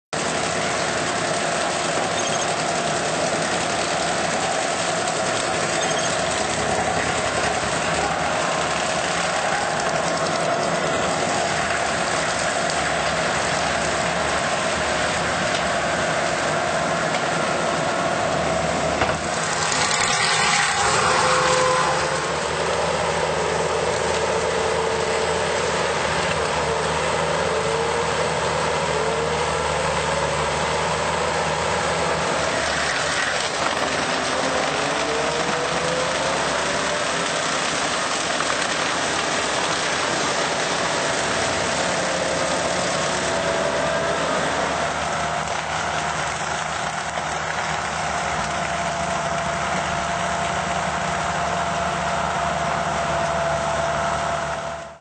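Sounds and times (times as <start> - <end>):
forestry mulcher machine running: 0.1 - 55.0.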